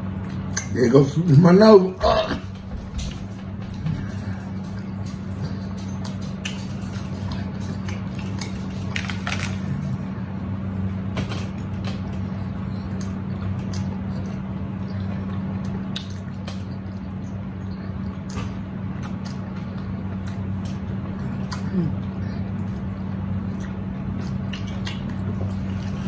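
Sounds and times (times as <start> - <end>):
steady low hum: 0.0 - 26.0
people chewing: 2.0 - 26.0.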